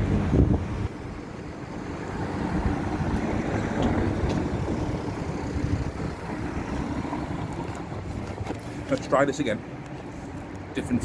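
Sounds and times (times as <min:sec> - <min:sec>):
wind rumbling on microphone: 0:00.0 - 0:08.9
passing traffic: 0:00.0 - 0:11.0.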